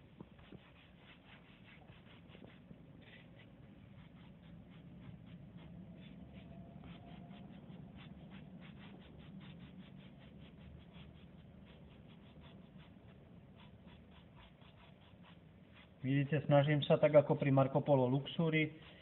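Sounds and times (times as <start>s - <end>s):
brush scrubbing scratchy strokes: 0.0s - 19.0s.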